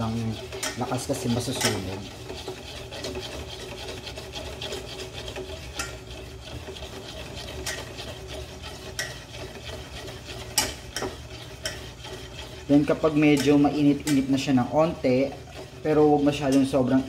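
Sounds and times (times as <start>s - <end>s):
whisk clinking against pot: 0.0s - 17.0s
whisk scraping in metal pot: 0.0s - 17.0s.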